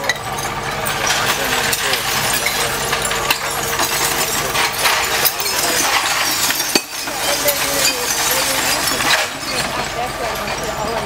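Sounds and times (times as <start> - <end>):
diesel engine idling: 0.0 - 11.0
glass bottles clinking: 0.0 - 11.0.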